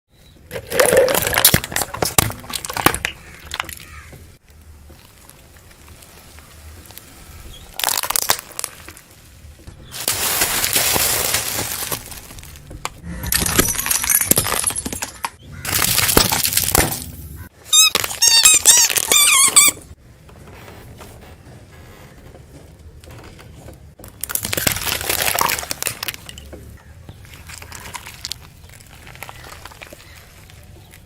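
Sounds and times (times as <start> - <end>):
objects crunching under tyres: 0.2 - 31.0.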